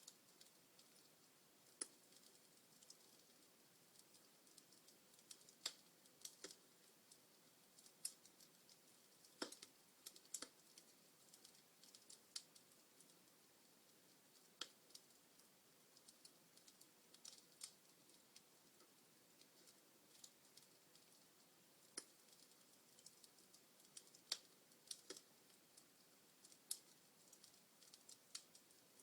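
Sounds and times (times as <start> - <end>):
logs crackling in fireplace: 0.0 - 29.0.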